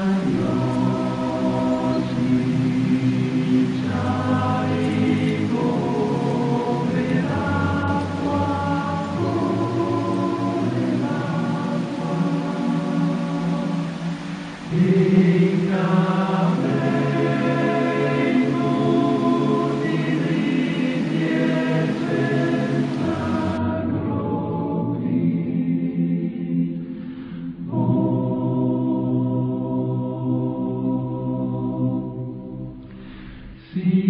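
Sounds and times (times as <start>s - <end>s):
choir singing a cappella: 0.0s - 34.0s.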